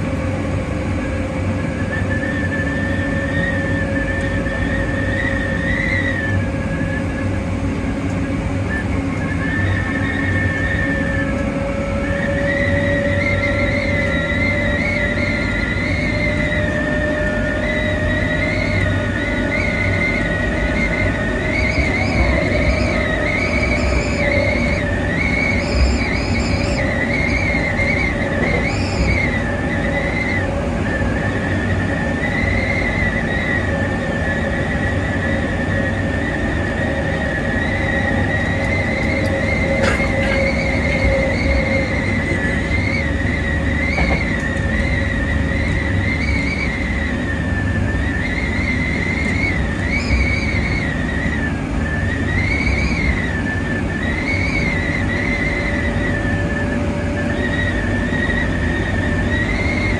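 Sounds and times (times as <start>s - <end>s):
electric train whine: 0.0s - 59.9s
high wavering squeal: 0.0s - 59.9s
train wheels rumbling on rails: 0.0s - 59.9s.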